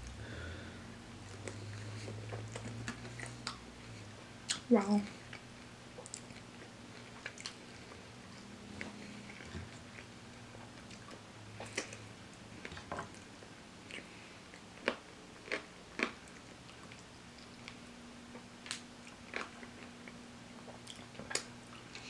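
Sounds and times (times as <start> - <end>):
chewing crunchy food: 1.2 - 22.0.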